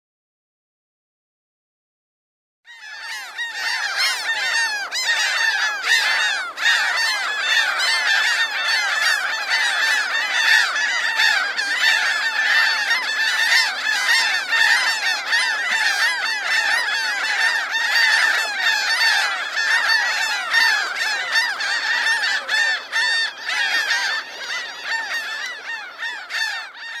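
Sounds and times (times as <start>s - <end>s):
flock of gulls squawking: 2.7s - 27.0s.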